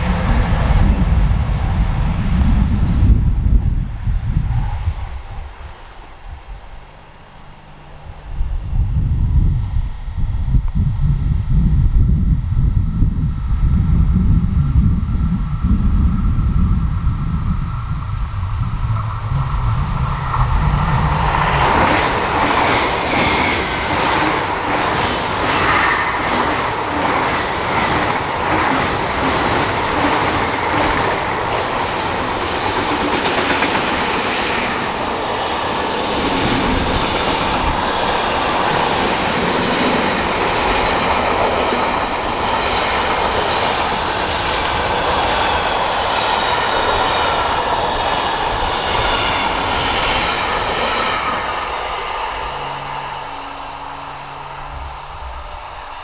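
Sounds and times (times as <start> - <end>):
train wheels rushing on rails: 0.0 - 9.6, 10.4 - 56.0.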